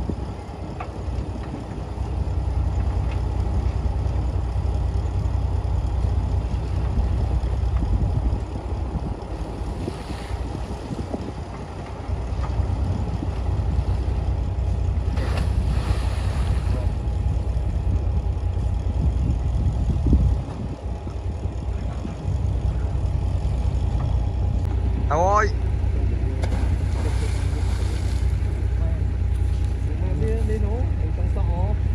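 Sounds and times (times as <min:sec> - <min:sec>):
diesel machinery engine rumble: 0:00.0 - 0:31.9.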